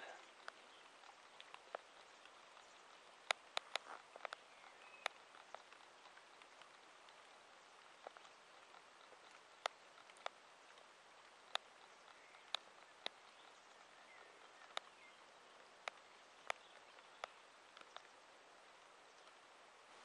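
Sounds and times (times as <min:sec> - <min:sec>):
faint background hiss: 0:00.0 - 0:20.0
sharp ticks: 0:00.3 - 0:18.2.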